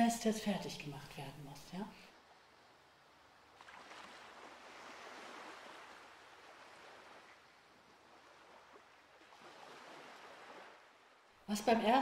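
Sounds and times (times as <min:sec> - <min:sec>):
faint ocean surf on beach: 0:00.0 - 0:12.0.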